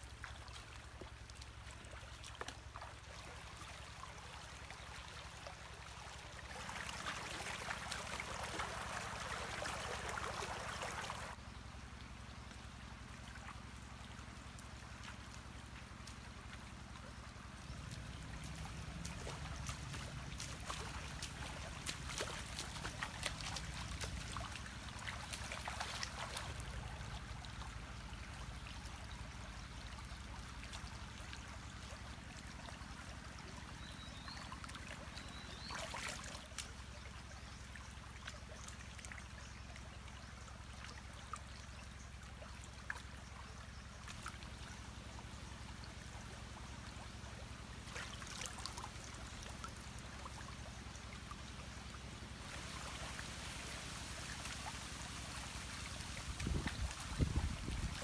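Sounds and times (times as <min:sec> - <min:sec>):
stream water trickling: 0:00.0 - 0:58.0
splashing while wading: 0:00.1 - 0:11.4, 0:14.4 - 0:39.3, 0:46.8 - 0:58.0.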